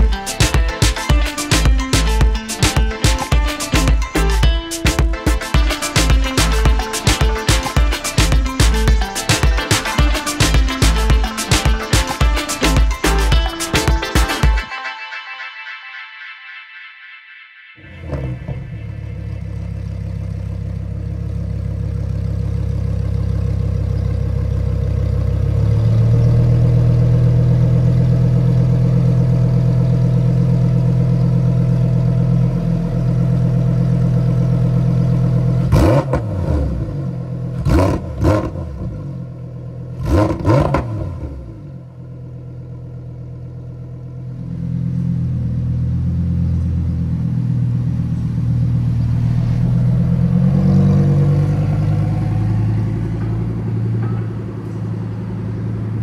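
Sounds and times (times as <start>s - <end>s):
car engine idling and revving: 0.0s - 14.1s, 17.8s - 56.0s.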